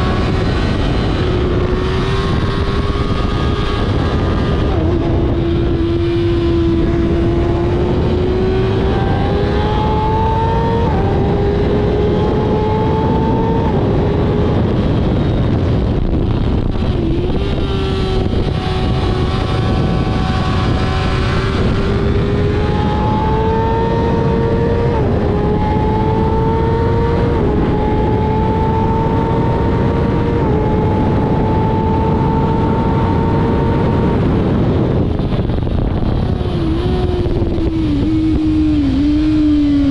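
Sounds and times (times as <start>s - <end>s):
motorcycle engine revving hard: 0.0s - 39.9s
wind noise on microphone: 0.0s - 39.9s.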